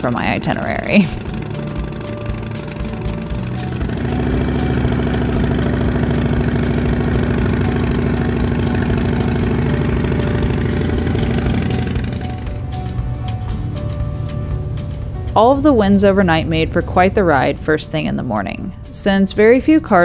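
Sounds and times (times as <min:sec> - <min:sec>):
motorcycle engine starting and idling: 0:00.0 - 0:20.0.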